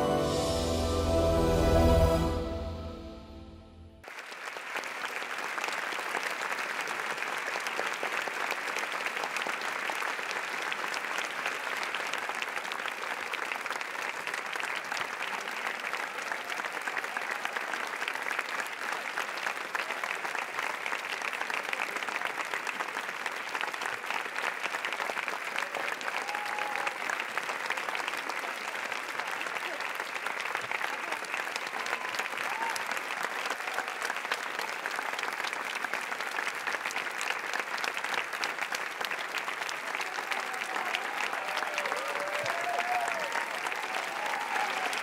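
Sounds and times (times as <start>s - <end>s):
audience applause: 4.0s - 45.0s.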